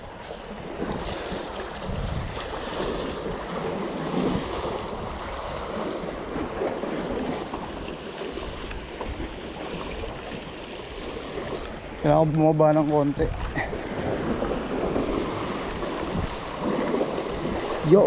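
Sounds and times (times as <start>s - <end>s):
waves splashing against boulders: 0.0s - 18.0s
wind buffeting microphone: 0.0s - 18.0s.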